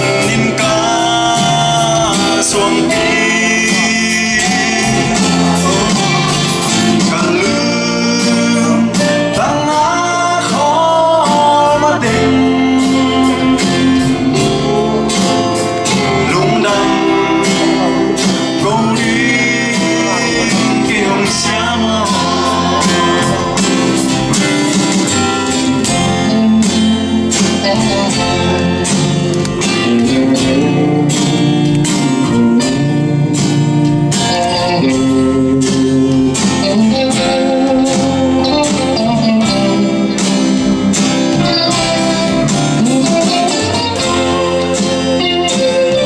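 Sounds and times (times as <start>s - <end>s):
drums: 0.0s - 46.0s
electric guitar: 0.0s - 46.0s
keyboard: 0.0s - 46.0s.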